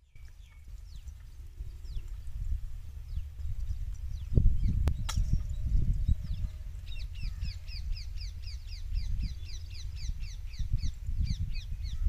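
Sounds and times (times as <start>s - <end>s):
low uneven rumble: 0.0s - 12.0s.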